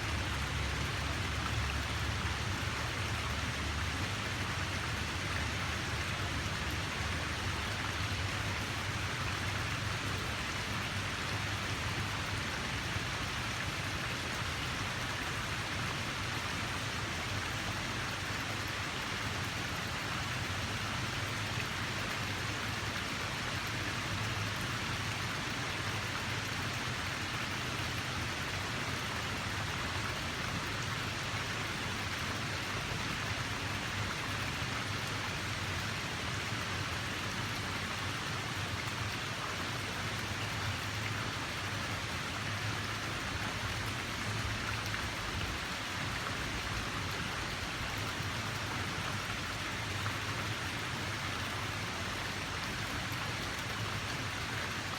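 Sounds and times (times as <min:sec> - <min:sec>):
water rushing: 0:00.0 - 0:54.9.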